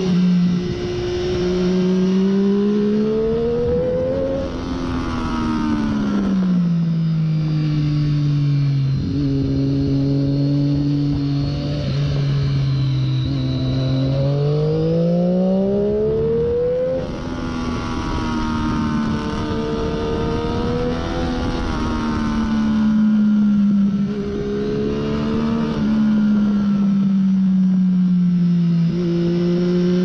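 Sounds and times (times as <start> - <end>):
wind rushing over microphone: 0.0 - 6.8, 7.6 - 27.6
motorcycle engine accelerating: 0.0 - 30.0.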